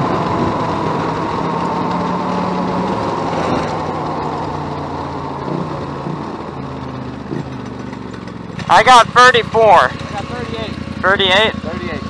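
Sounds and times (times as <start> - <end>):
go-kart engine droning: 0.0 - 12.0.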